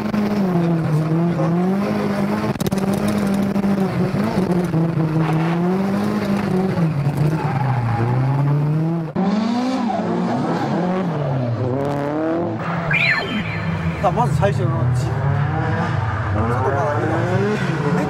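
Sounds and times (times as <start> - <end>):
car engine revving hard: 0.0 - 12.6, 14.2 - 18.0.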